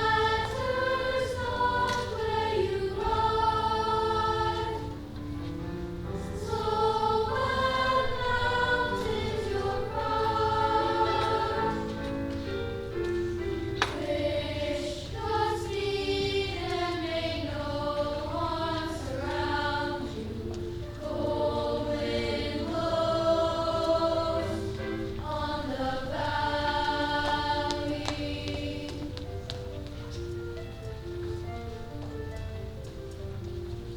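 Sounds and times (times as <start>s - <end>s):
youth choir singing: 0.0s - 5.2s, 6.1s - 12.6s, 13.6s - 29.2s
piano accompaniment: 0.0s - 33.9s.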